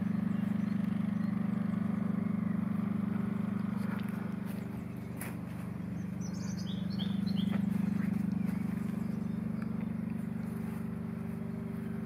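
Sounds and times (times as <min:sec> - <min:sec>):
birds chirping: 0:00.0 - 0:12.0
engine idling: 0:00.0 - 0:12.0.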